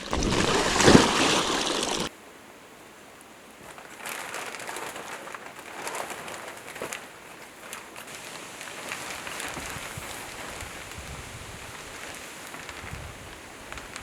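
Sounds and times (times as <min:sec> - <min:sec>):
rain pattering: 0:00.0 - 0:02.1, 0:03.2 - 0:14.0.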